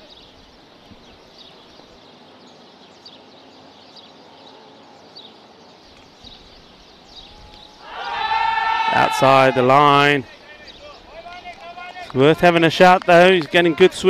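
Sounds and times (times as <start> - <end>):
small birds chirping: 0.0 - 14.0
steady low hiss: 0.0 - 14.0.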